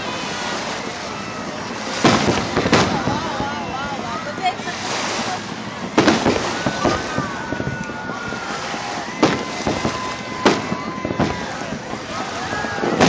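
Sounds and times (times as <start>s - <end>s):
fireworks bursting with booms: 0.0s - 13.0s
surf: 0.0s - 13.0s
wind: 0.0s - 13.0s.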